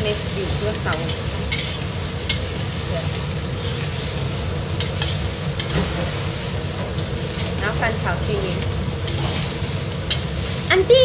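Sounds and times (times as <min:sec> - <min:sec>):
rice sizzling in wok: 0:00.0 - 0:11.0.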